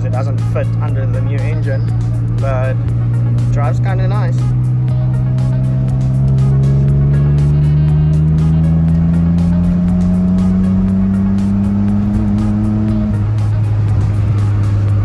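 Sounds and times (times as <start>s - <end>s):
car engine droning under load: 0.0s - 15.0s.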